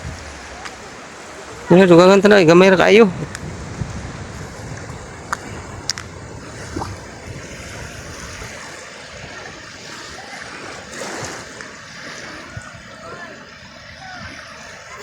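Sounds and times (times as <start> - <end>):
sea waves washing on beach: 0.0 - 15.0.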